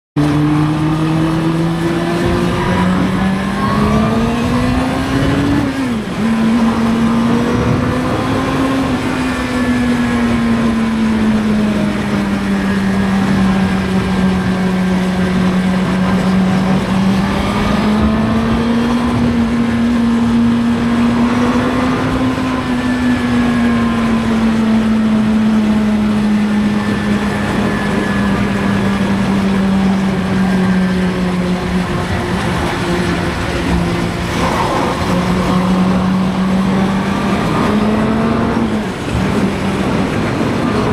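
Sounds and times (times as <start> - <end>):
motorcycle engine revving: 0.2 - 40.9
wind noise: 0.2 - 40.9.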